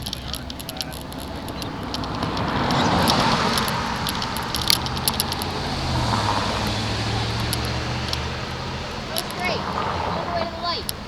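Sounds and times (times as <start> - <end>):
bicycle rattling and jingling: 0.0 - 11.0
road and wind noise: 0.0 - 11.0
vehicle engine hum: 0.0 - 11.0.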